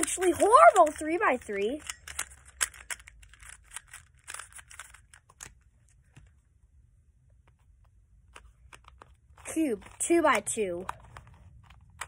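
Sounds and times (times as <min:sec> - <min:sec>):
puzzle cube clicks: 0:00.0 - 0:06.3, 0:07.5 - 0:12.0.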